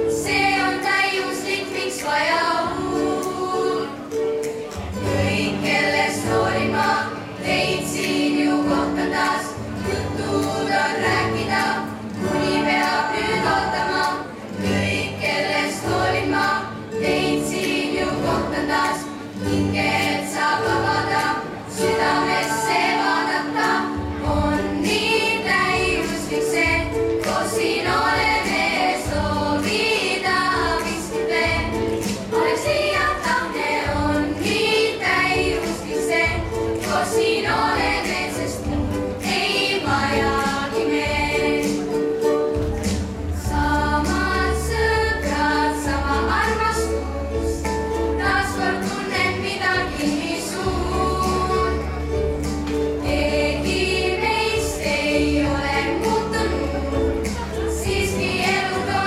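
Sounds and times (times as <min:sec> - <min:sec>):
children's choir singing: 0:00.0 - 0:59.0
instrumental accompaniment with bass: 0:00.0 - 0:59.0.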